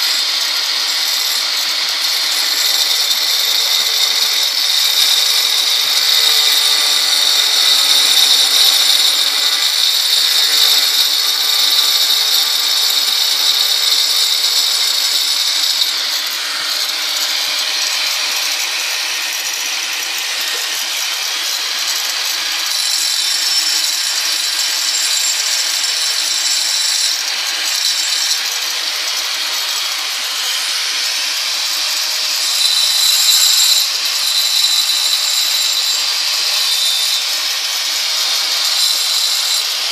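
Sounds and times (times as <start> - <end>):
angle grinder cutting stone: 0.0 - 39.9.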